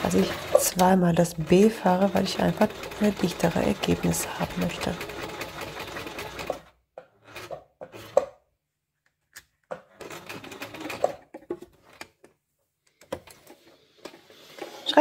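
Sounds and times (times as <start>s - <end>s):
sewing machine stitching: 0.0s - 8.4s, 9.9s - 12.0s, 13.2s - 15.0s.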